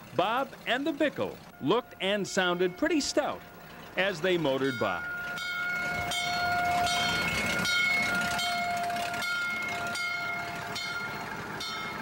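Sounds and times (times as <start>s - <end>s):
fire engine bell ringing: 0.0s - 12.0s
low engine rumble: 0.0s - 12.0s.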